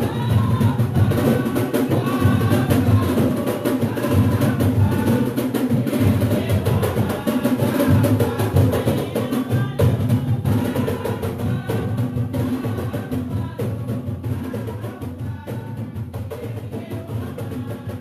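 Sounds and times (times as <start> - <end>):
hand drums playing fast beat: 0.0 - 18.0.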